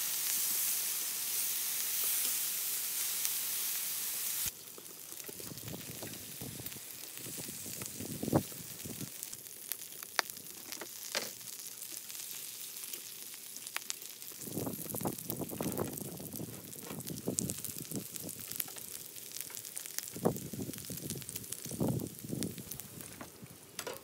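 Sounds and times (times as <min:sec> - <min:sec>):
meat sizzling on a griddle: 0:00.0 - 0:24.0.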